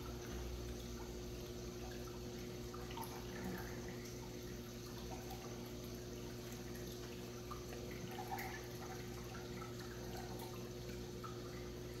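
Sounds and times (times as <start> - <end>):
aquarium pump hum: 0.0 - 12.0
aquarium water bubbling: 0.0 - 12.0
water drips: 0.0 - 12.0.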